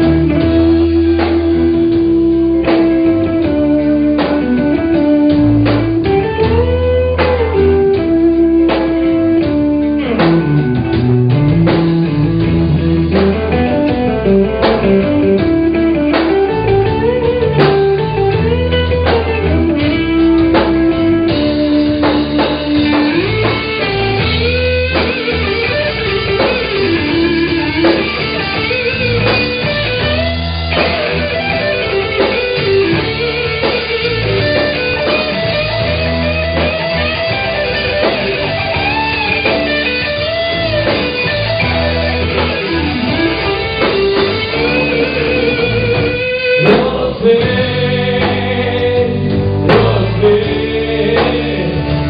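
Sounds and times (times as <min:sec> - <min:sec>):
bass: 0:00.0 - 0:52.0
electric guitar lead: 0:00.0 - 0:52.0
steady drum beat: 0:00.0 - 0:52.0.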